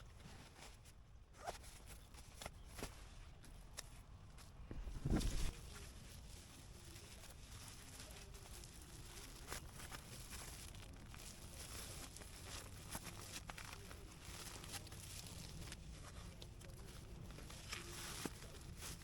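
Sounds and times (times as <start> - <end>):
sleeping bag rustling and crinkling: 0.0 - 19.0.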